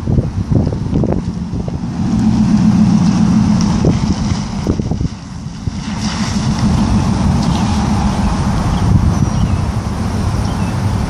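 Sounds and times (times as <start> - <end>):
vehicle engine humming: 0.0 - 11.0
wind rumble on microphone: 0.0 - 11.0.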